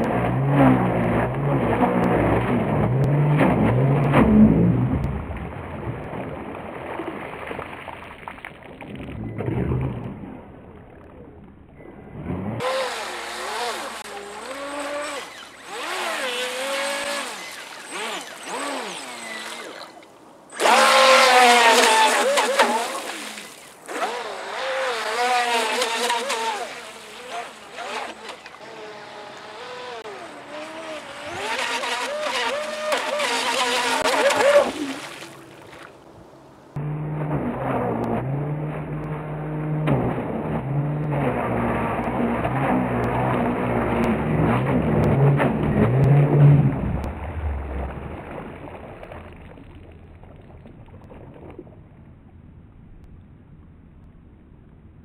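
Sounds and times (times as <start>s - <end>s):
rc boat motor whining: 0.0s - 5.2s, 9.2s - 48.8s
faint wind: 0.0s - 55.0s.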